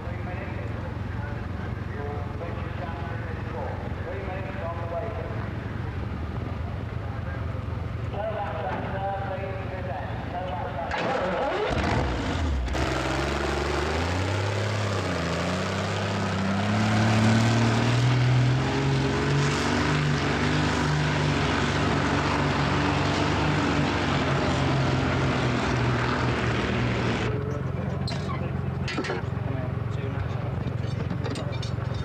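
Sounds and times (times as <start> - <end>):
tractor engine running hard: 0.0 - 32.0.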